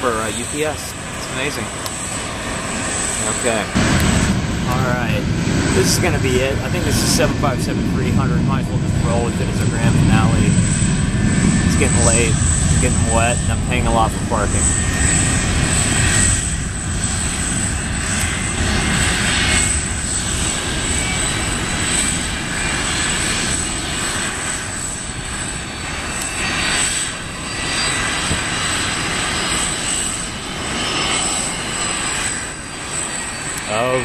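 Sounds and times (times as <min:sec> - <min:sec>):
jet engines rumbling at takeoff: 0:00.0 - 0:34.0.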